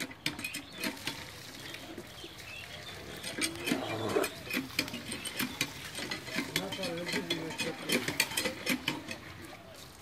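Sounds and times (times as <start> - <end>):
pond water splashing: 0.0 - 10.0.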